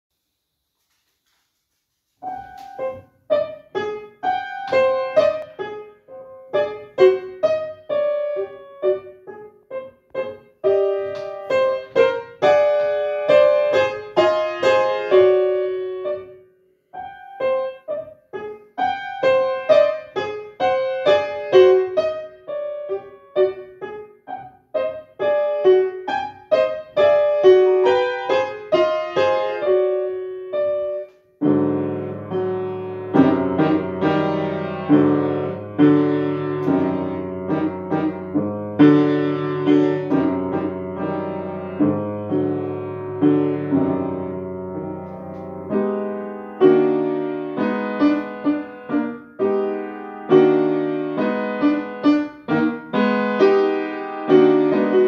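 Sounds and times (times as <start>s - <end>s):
solo upright piano: 0.2s - 55.0s.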